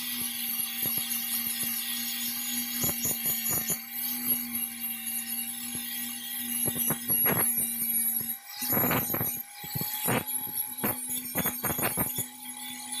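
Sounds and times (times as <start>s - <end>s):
power tool humming: 0.0s - 13.0s.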